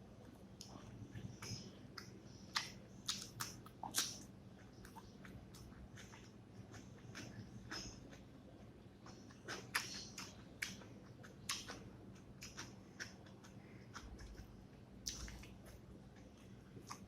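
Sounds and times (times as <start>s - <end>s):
wet chewing and mouth smacks: 0.5s - 17.0s.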